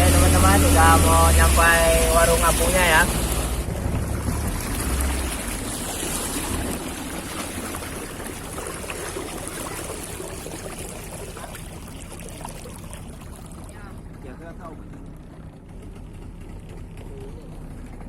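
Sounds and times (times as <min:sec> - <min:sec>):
boat engine rumble: 0:00.0 - 0:18.0
water splashing along boat hull: 0:00.0 - 0:18.0.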